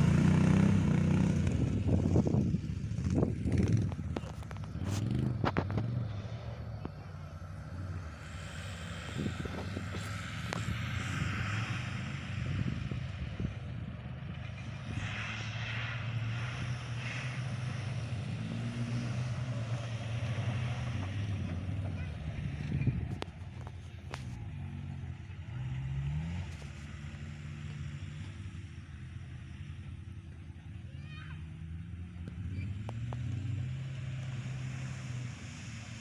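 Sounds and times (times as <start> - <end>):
low engine-like drone: 0.0 - 33.0.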